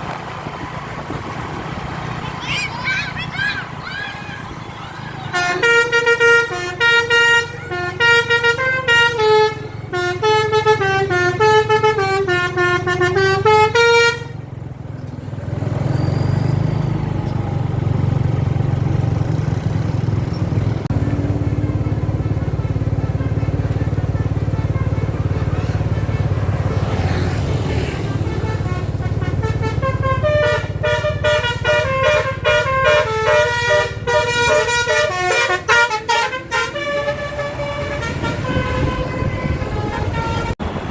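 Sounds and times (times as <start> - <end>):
bus engine rumble: 0.0 - 40.9
multi-tone bus horn melody: 2.8 - 16.8, 20.8 - 40.9.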